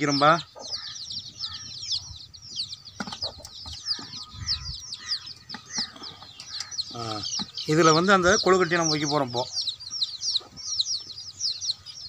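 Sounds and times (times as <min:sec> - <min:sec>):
birds chirping chorus: 0:00.0 - 0:12.0.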